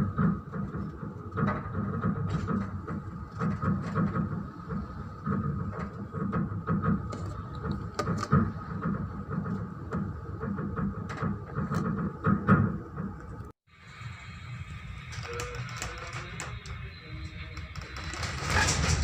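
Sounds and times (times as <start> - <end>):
knocks and rattles: 0.0 - 13.6, 15.0 - 19.0
ship low rumble: 0.0 - 19.0.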